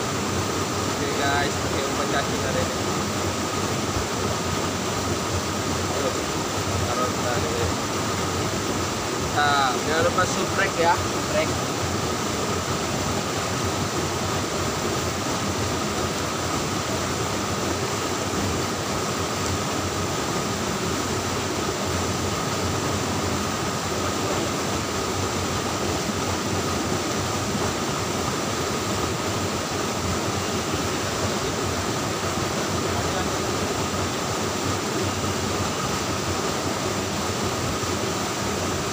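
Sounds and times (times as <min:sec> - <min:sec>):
stream water flowing over rocks: 0:00.0 - 0:38.9.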